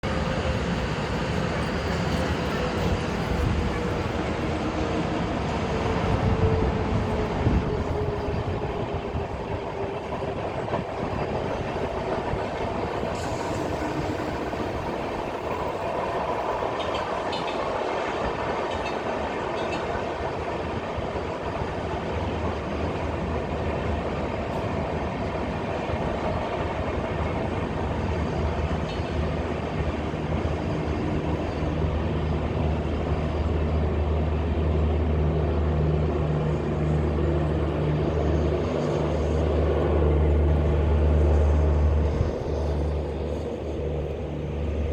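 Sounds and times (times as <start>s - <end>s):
train wheels rumbling and clattering: 0.0s - 44.9s.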